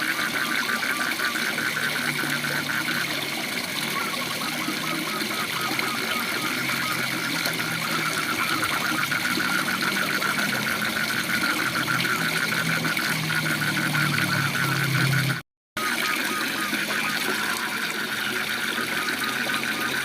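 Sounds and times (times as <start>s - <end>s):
frogs calling in chorus: 0.0s - 20.0s
low drone: 0.0s - 20.0s.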